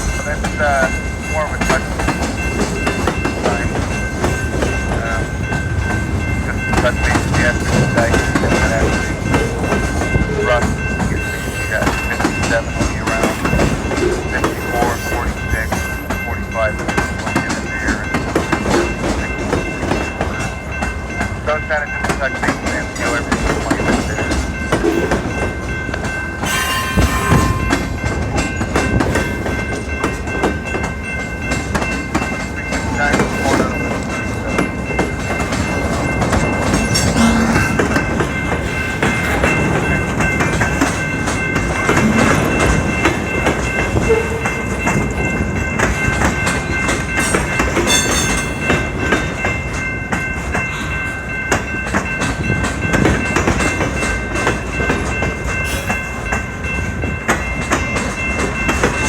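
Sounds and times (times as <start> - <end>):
freight train wheels clattering: 0.0 - 59.0
high ringing tones: 0.0 - 59.0.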